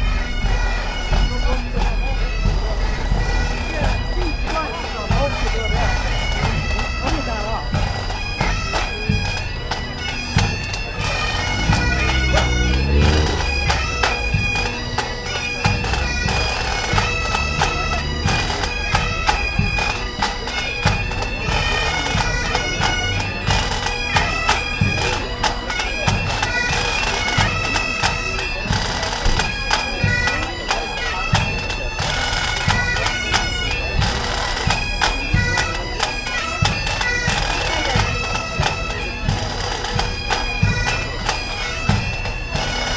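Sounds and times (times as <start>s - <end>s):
bagpipes playing over drone: 0.0s - 42.9s
drum beats: 0.0s - 42.9s.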